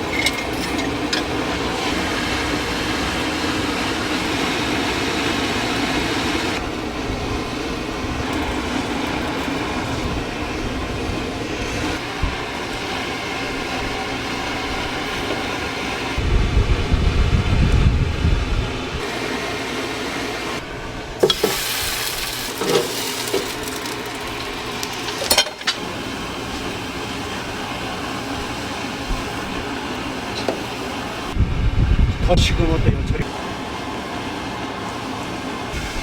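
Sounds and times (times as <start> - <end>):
workshop machine noise: 0.0 - 36.0.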